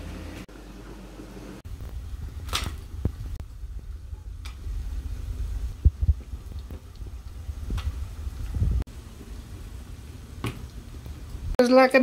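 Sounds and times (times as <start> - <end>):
low rumble: 1.7 - 11.6.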